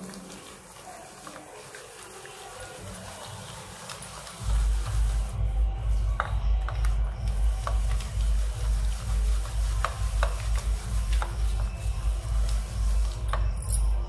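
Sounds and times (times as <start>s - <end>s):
rhythmic rubbing strokes: 0.0s - 14.0s.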